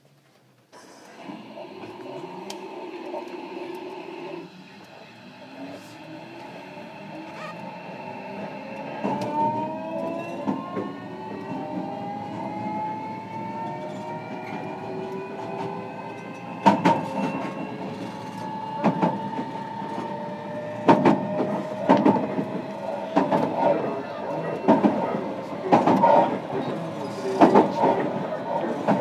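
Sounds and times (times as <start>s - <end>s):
electric train motor whine: 0.8s - 29.0s.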